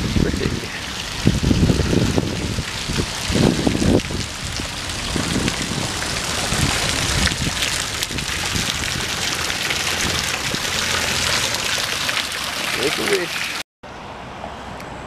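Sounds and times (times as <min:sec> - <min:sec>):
fountain water splashing into pool: 0:00.0 - 0:13.6.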